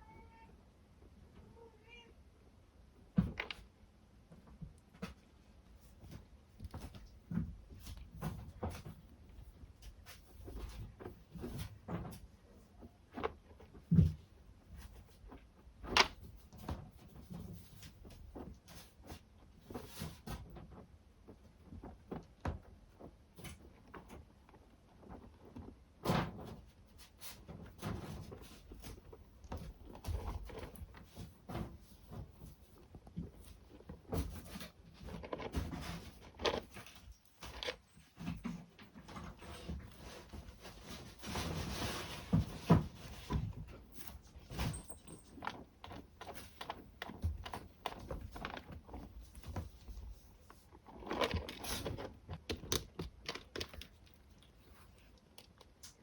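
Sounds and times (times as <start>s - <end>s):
kittens scratching in cat litter: 4.4s - 56.0s.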